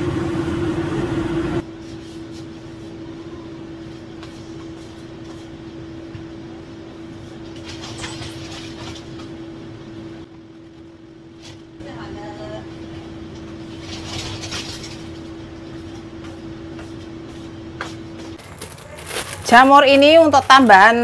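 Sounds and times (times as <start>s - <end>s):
kitchen machine hum: 0.0s - 21.0s.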